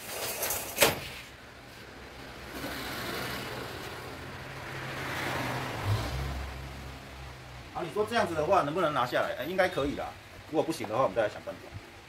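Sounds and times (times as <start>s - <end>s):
vehicle engine passing with road noise: 1.3s - 11.8s.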